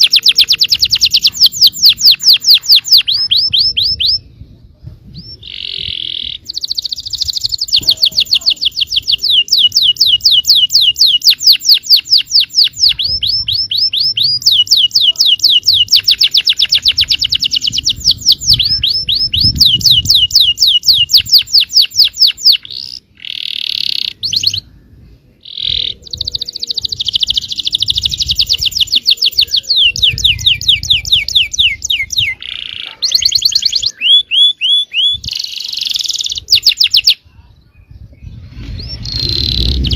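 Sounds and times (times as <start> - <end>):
canary singing trills: 0.0 - 4.5, 5.1 - 39.9.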